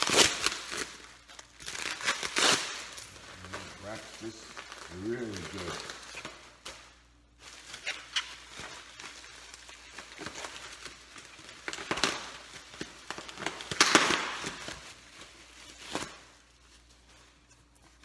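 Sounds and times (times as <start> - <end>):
packaging rustling and crinkling: 0.0 - 18.0.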